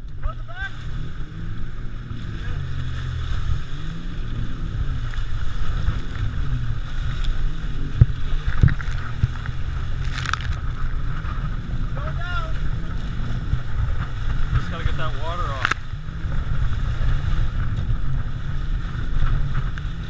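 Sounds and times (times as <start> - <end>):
boat motor running: 0.0 - 20.0
wind noise on microphone: 0.0 - 20.0.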